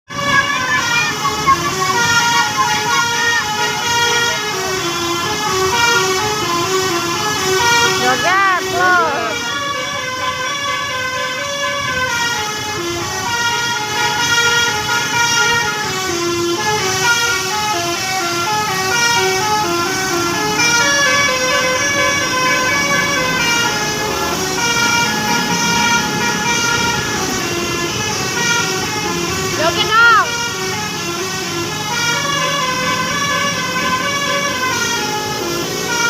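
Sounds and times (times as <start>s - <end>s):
multi-tone musical bus horn: 0.1s - 36.0s.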